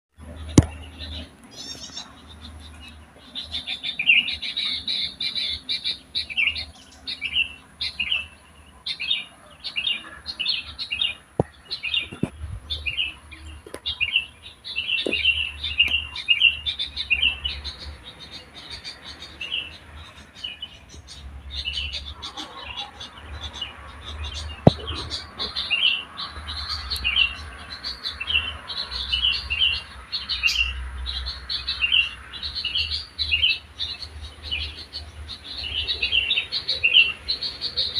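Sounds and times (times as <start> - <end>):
songbird chirping: 0.2 - 37.9.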